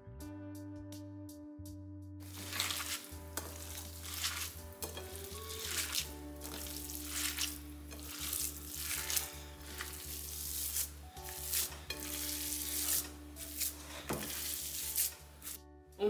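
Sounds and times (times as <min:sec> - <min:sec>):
meat sizzling in a frying pan: 0:02.2 - 0:15.6.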